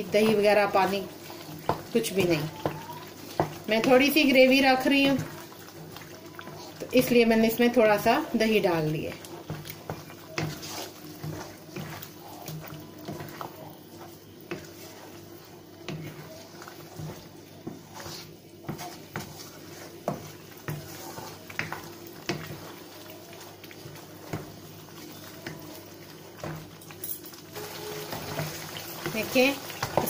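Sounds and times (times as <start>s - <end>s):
meat sizzling in oil: 0.0s - 30.0s
wooden spatula scraping a pan: 0.0s - 30.0s.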